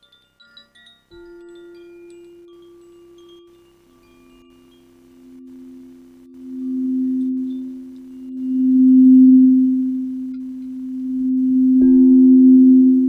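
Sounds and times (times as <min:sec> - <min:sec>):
singing bowls ringing low: 0:00.0 - 0:13.0
struck bowl ringing high: 0:00.0 - 0:13.0.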